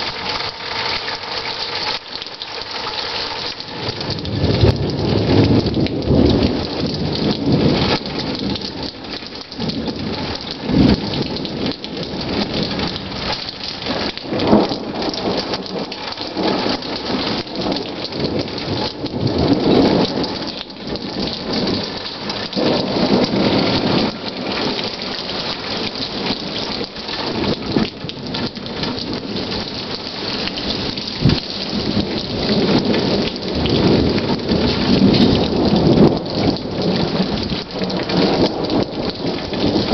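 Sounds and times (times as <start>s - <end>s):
steady rain falling: 0.0s - 39.9s
thunder rumbling: 3.4s - 39.9s.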